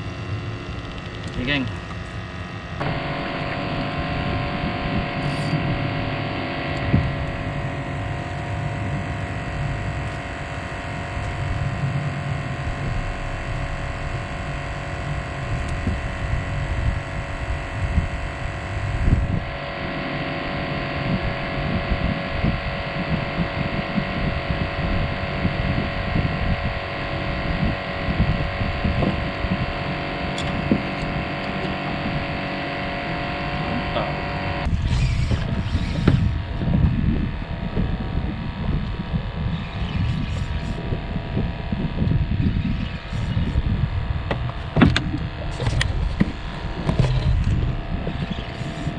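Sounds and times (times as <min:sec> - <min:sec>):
steady tonal hum: 0:00.0 - 0:48.9
wind rumbling on microphone: 0:00.0 - 0:48.9.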